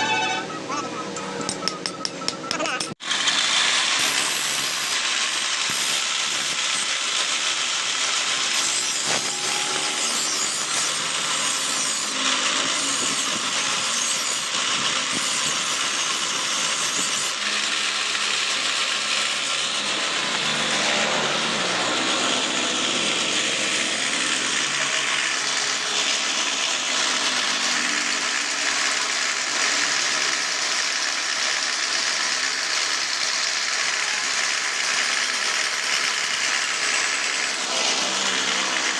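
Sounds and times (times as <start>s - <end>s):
tool grinding steel blade: 0.0s - 38.9s.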